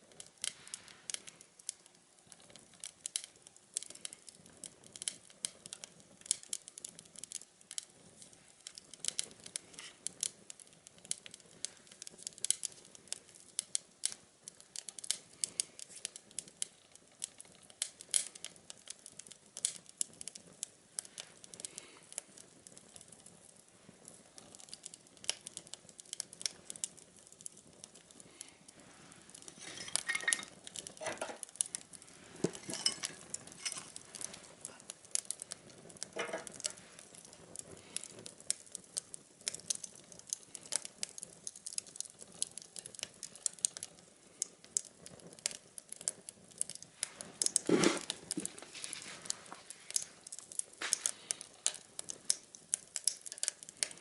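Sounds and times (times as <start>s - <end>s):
twig fire crackling: 0.0s - 54.0s.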